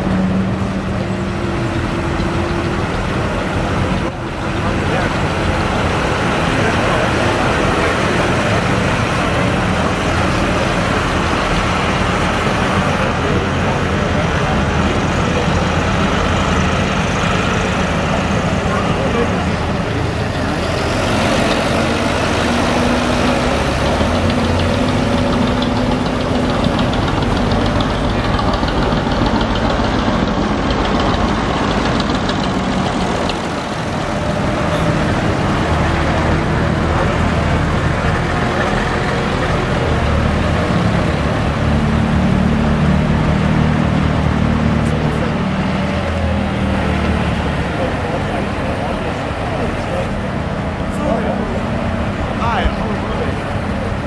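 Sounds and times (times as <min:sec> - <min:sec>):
tractor diesel engines droning: 0:00.0 - 0:54.0.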